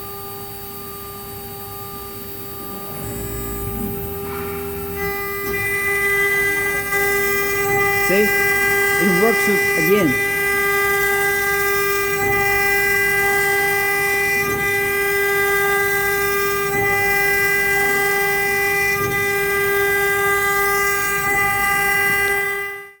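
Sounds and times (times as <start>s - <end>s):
router spindle whining: 2.8s - 22.5s.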